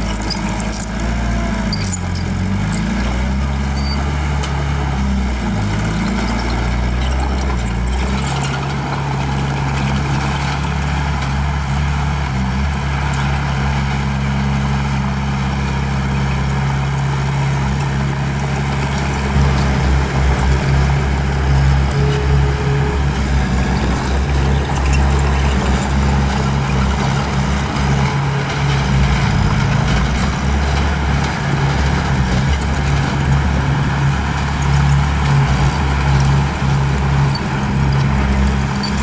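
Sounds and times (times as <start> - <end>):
bulldozer diesel engine: 0.0 - 39.0.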